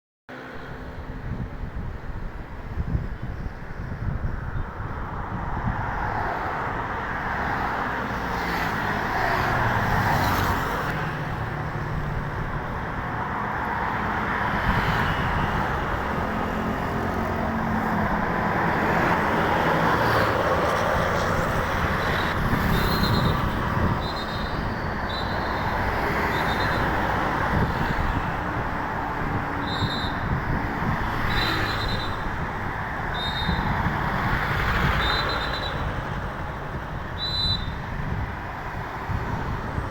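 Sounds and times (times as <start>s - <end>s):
road traffic passing: 0.3s - 39.9s.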